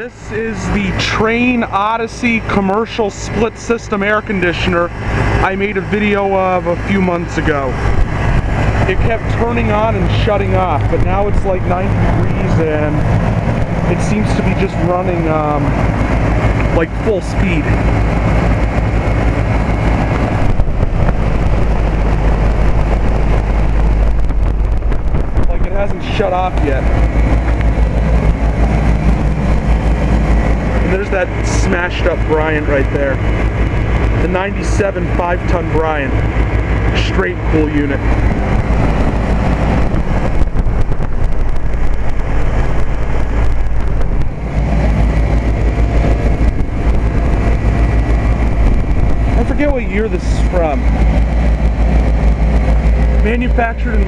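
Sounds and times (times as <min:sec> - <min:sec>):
compressor hum: 0:00.0 - 0:54.0
condenser fan rushing: 0:00.0 - 0:54.0.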